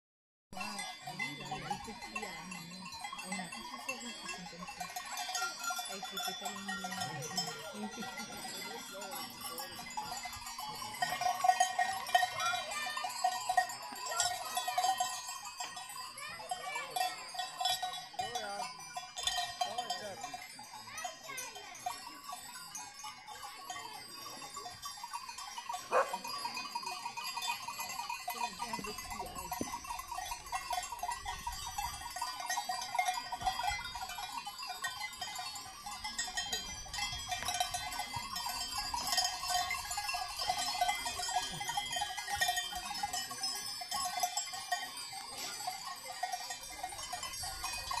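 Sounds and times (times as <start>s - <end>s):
goat neck bells clanking: 0.6s - 48.0s.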